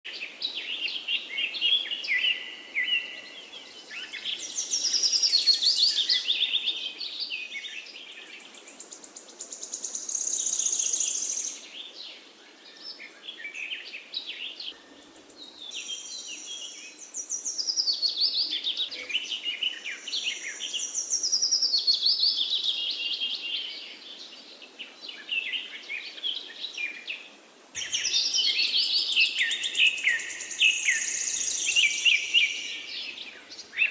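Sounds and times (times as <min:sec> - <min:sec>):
birds chirping and trilling: 0:00.1 - 0:33.9.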